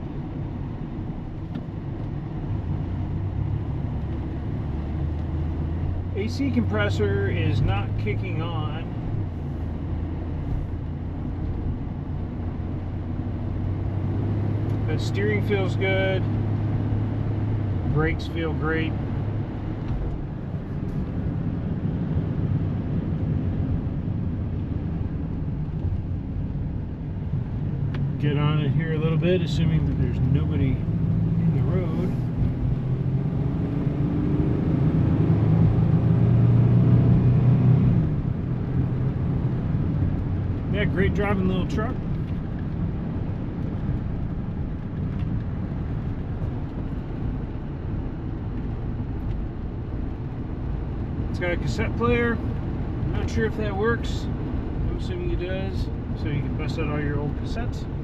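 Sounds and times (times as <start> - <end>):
road noise: 0.0 - 58.0
truck engine rumble: 0.0 - 58.0.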